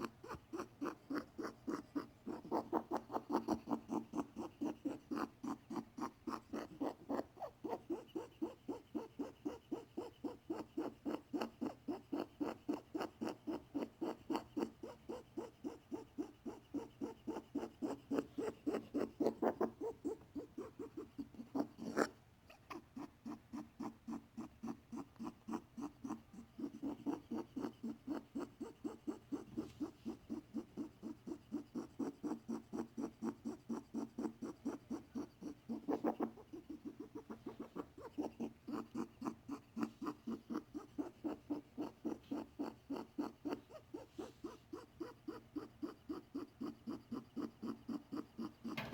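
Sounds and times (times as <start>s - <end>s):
rabbit grunting pulses: 0.0s - 48.9s.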